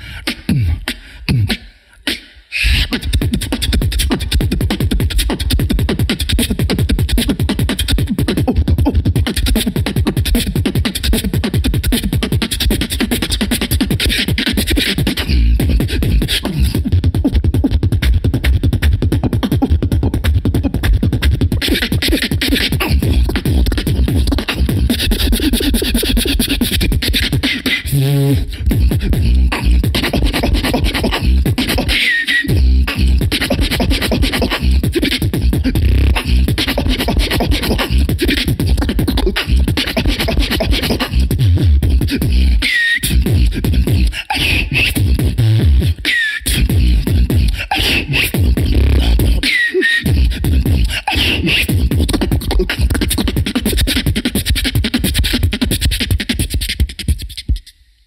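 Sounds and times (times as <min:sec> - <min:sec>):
person beatboxing: 0:00.0 - 0:57.9.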